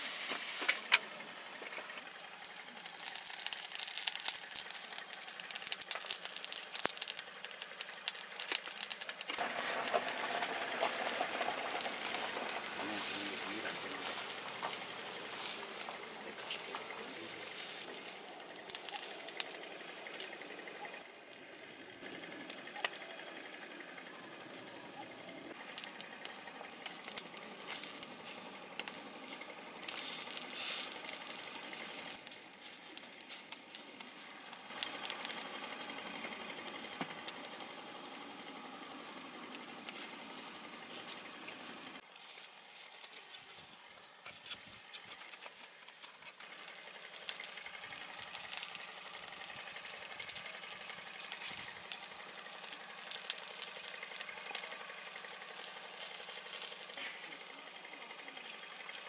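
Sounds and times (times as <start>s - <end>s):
food sizzling and crackling: 0.0s - 59.0s.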